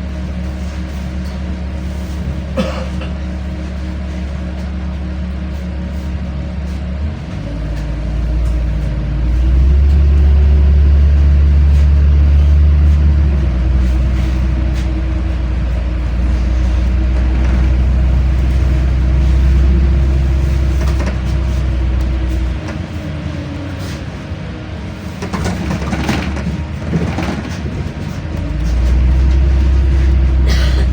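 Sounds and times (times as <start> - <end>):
bus engine pulling away: 0.0 - 30.9.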